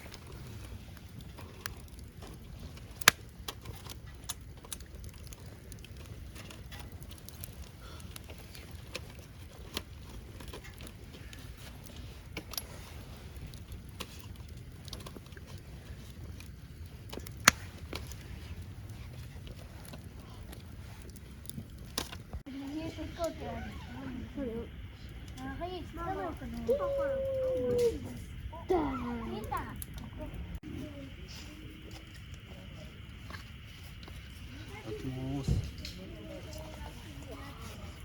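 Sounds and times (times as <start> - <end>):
fire cracking sharply: 0.0 - 38.0
wood fire crackling: 0.0 - 38.0.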